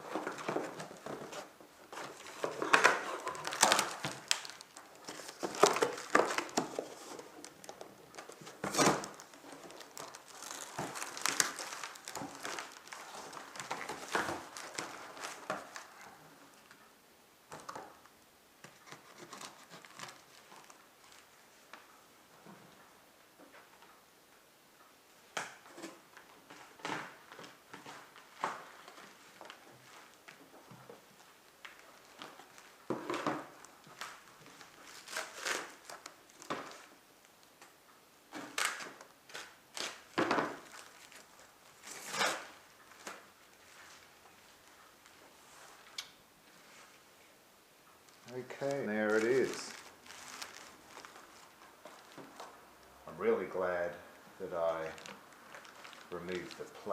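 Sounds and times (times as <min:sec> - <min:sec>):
packaging crinkling and rustling: 0:00.0 - 0:16.8, 0:18.6 - 0:21.9, 0:25.8 - 0:37.0, 0:38.3 - 0:47.0, 0:48.0 - 0:56.9.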